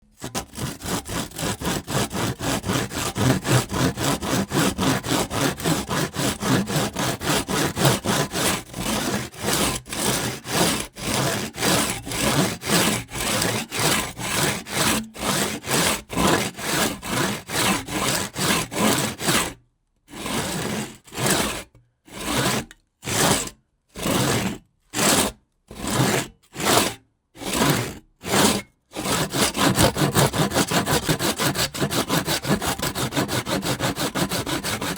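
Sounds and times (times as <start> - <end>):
hand saw cutting wood: 0.0 - 34.9.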